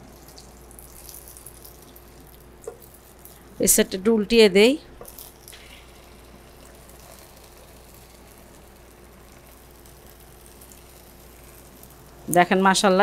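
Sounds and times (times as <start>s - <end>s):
flatbread sizzling in a pan: 0.0s - 3.6s, 5.0s - 12.3s.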